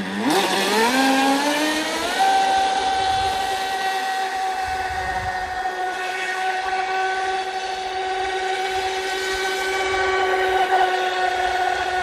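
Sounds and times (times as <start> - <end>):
electric motor high-pitched whine: 0.0 - 12.0.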